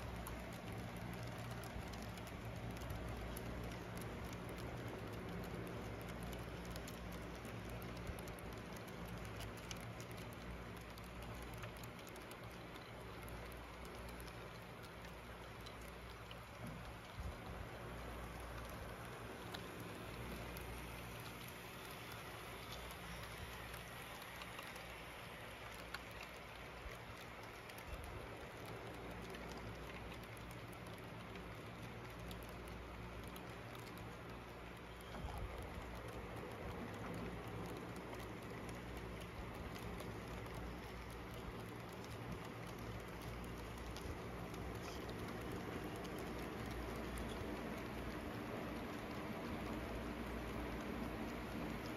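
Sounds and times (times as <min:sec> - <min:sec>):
model train motor hum: 0:00.0 - 0:51.9
wheels clicking over track: 0:00.0 - 0:51.9.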